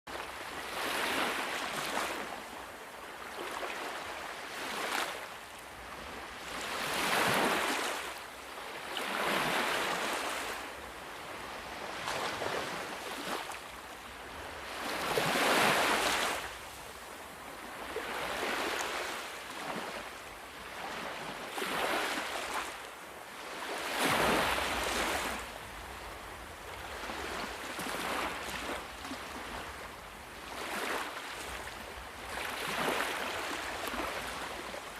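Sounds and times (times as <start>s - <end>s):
sea waves breaking: 0.2s - 2.5s, 5.8s - 26.0s, 26.6s - 34.9s.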